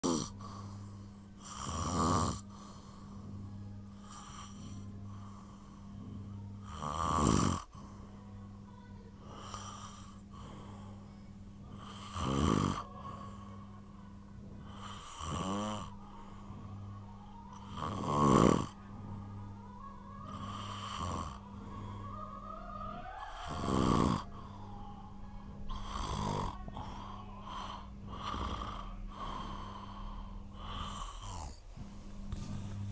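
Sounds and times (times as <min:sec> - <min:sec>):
person snoring: 0:00.0 - 0:08.2, 0:09.2 - 0:32.9.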